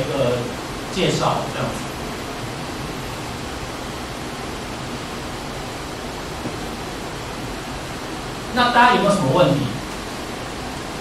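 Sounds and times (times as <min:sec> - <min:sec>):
room tone hiss: 0:00.0 - 0:11.0.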